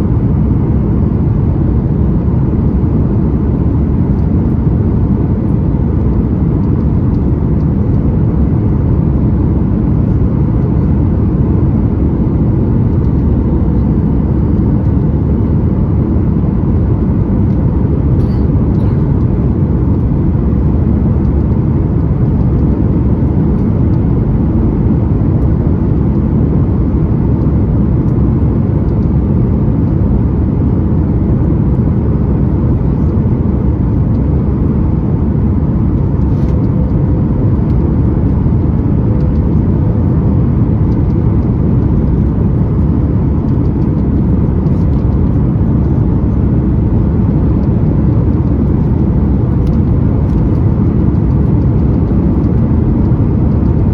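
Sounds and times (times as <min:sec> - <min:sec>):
airplane cabin roar: 0:00.0 - 0:53.9
faint steady hum: 0:00.0 - 0:53.9.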